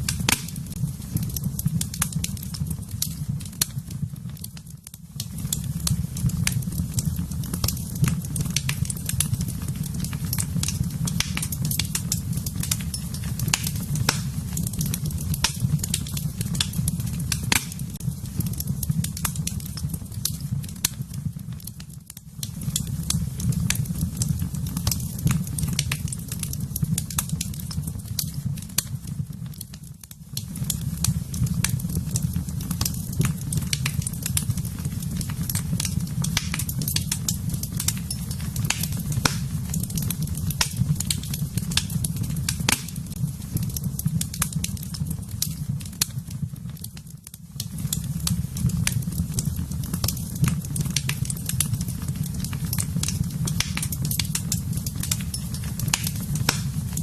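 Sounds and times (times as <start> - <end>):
low rumble of fire: 0.0 - 57.0
wood fire crackling and popping: 0.0 - 57.0.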